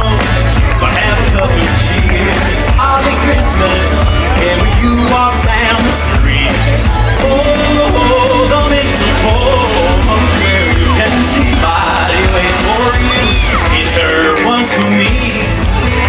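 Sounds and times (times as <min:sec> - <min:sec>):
crowd yelling and whooping: 0:00.0 - 0:16.0
pop music with singing: 0:00.0 - 0:16.0.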